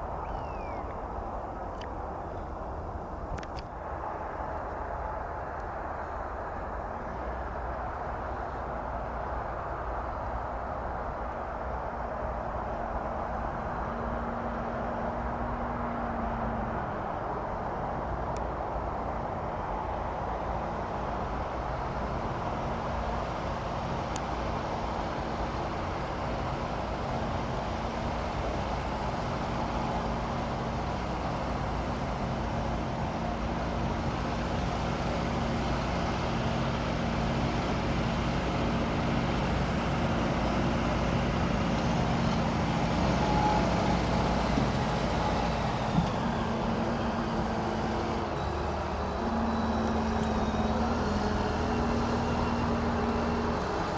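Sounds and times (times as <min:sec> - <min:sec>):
jet engines humming at low power: 0:00.0 - 0:53.9.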